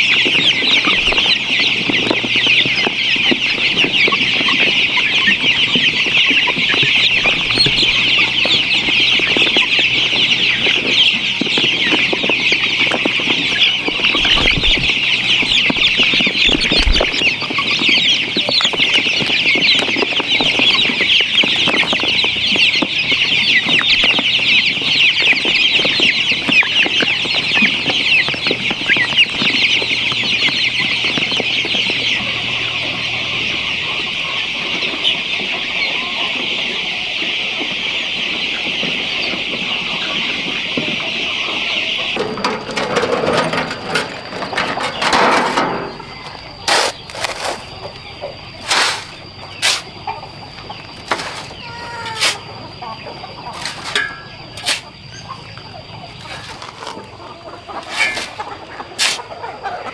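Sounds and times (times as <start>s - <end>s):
chickens cheeping: 0.0s - 59.9s.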